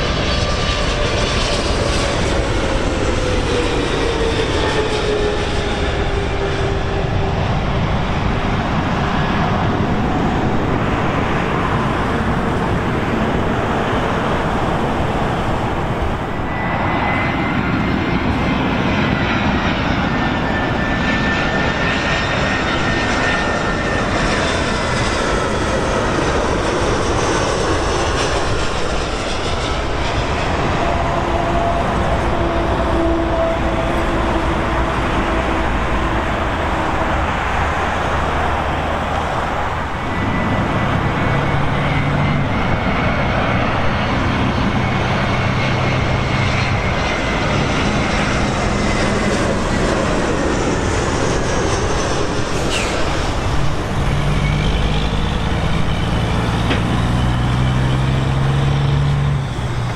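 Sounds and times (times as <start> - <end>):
jet airliner engine roar: 0.0 - 59.9
jet engine whine: 0.0 - 59.9.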